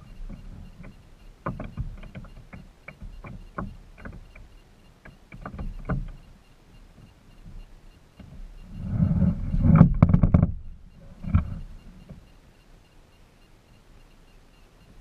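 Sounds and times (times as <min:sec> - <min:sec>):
light knocks and low thumps: 0:00.0 - 0:12.4.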